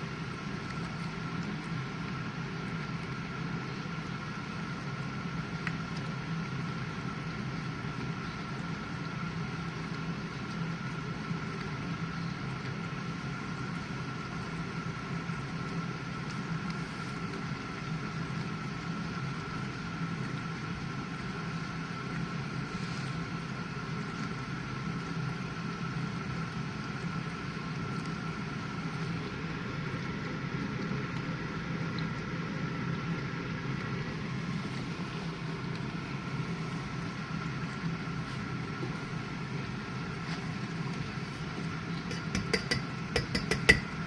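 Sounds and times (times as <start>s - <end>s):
dishwasher motor hum: 0.0s - 44.0s.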